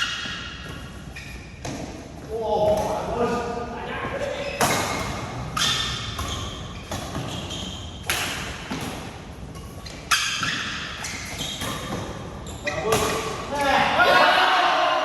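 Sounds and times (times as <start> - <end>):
racket hitting shuttlecock: 0.0 - 3.6, 4.2 - 14.0.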